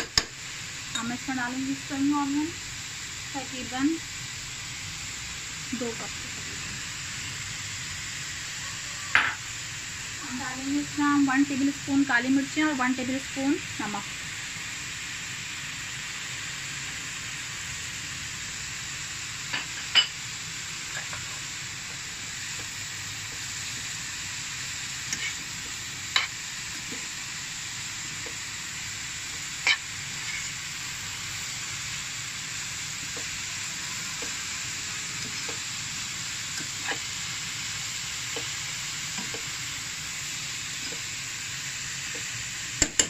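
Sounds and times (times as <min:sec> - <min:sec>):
vegetables sizzling in a pan: 0:00.0 - 0:43.0.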